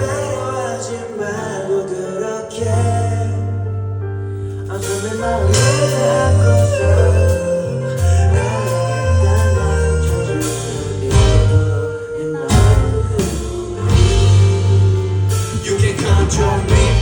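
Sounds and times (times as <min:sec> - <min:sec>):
live band music with singing: 0:00.0 - 0:17.0.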